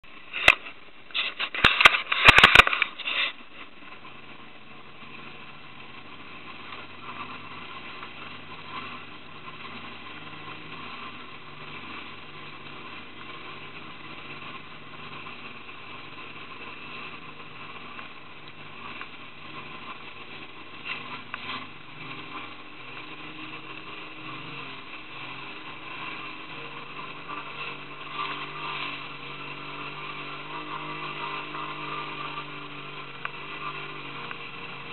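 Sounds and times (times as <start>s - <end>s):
motorboat engine running: 0.0s - 34.9s
wind: 0.0s - 34.9s
rushing water: 2.6s - 34.9s.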